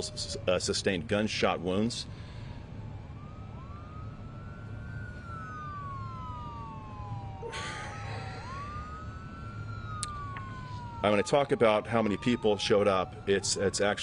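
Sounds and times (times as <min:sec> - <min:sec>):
emergency sirens wailing: 0:00.0 - 0:14.0.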